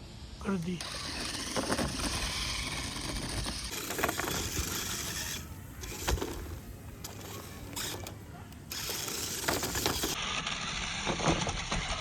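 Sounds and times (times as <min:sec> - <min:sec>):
toy car motor whining: 0:00.6 - 0:12.0.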